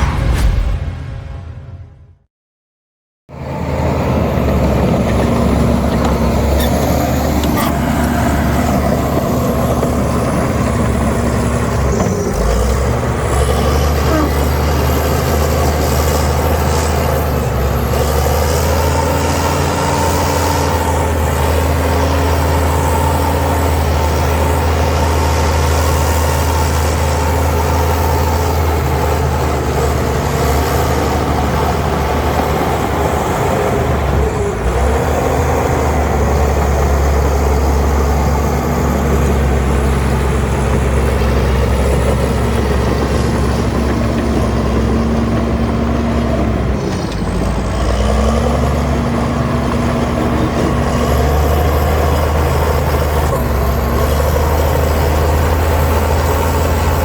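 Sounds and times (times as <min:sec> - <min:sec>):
heavy diesel engine running: 0:03.3 - 0:57.0.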